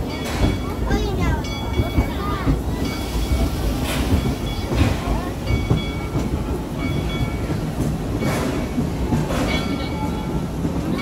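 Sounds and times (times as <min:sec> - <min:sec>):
clickety-clack over rail joints: 0:00.0 - 0:11.0
train rumbling on track: 0:00.0 - 0:11.0.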